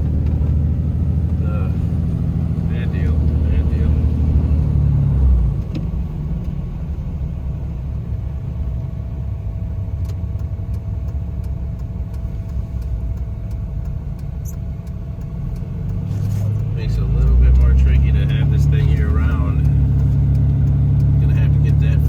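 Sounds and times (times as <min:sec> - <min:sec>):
diesel engine and road rumble: 0:00.0 - 0:22.0.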